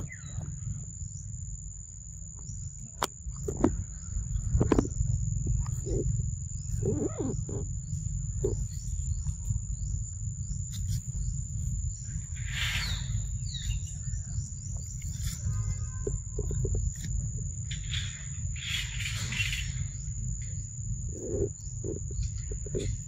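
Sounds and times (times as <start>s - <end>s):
high-pitched insect drone: 0.0s - 23.0s
low rumble: 0.0s - 23.0s.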